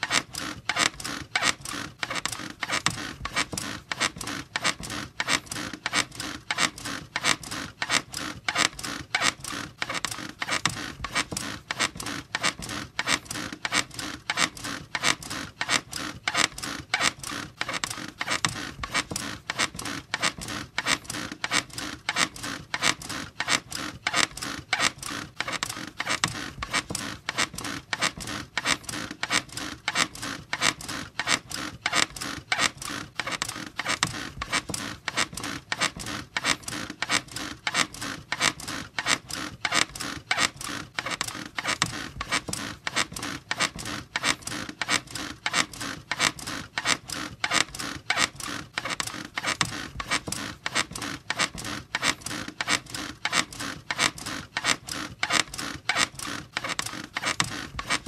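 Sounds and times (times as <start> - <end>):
squeaky bed creaking: 0.0 - 58.0.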